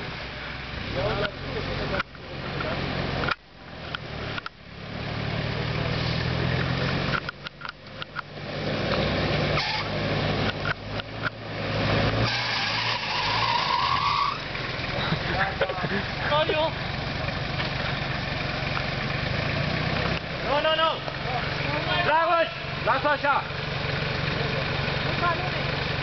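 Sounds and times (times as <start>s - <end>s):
suv engine running: 0.0s - 26.0s.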